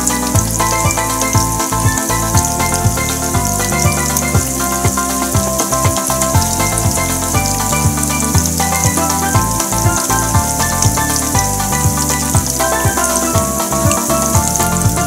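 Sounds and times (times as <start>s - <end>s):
background music with bass line: 0.0s - 15.0s
crackling sizzle of deep-frying: 0.0s - 15.0s.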